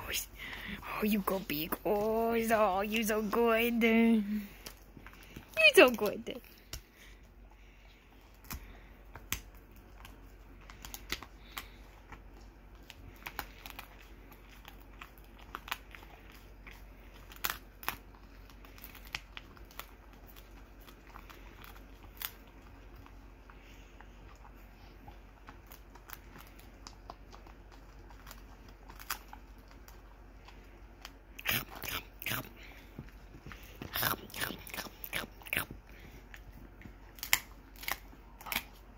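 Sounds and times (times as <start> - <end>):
dog crunching a chew: 0.0 - 38.9.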